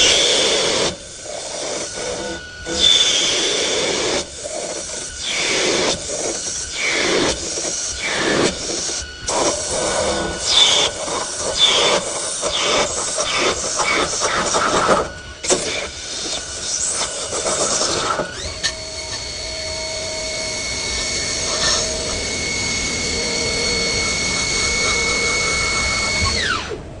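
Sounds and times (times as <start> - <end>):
rough machining noise: 0.0 - 26.9
spindle drive whine: 0.0 - 27.0.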